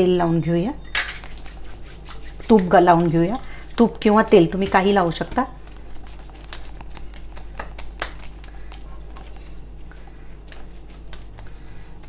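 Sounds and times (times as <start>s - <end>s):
hands squishing sticky mixture: 1.4s - 12.0s.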